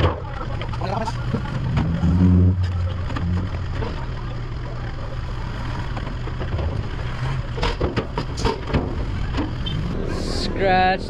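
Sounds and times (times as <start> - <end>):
motor vehicle engine rumbling: 0.0 - 11.0.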